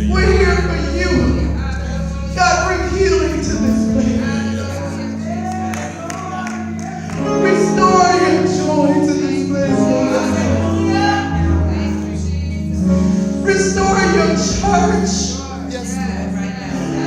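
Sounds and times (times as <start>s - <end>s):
held keyboard chords: 0.0s - 17.0s
person singing: 0.0s - 17.0s.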